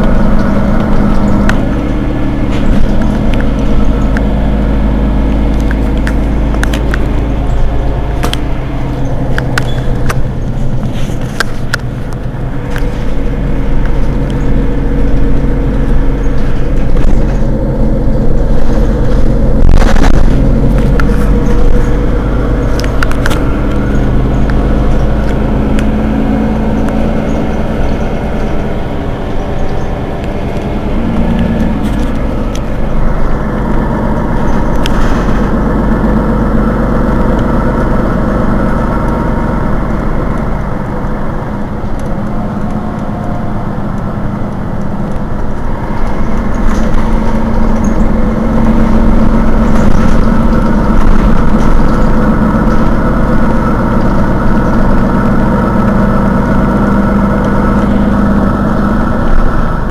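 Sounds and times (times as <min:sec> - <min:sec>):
bus diesel engine idling: 0:00.0 - 0:59.9.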